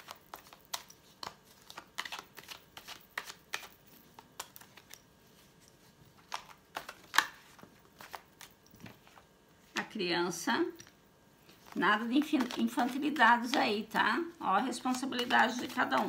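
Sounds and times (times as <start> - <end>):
cards being shuffled: 0.0 - 9.3, 11.4 - 16.0.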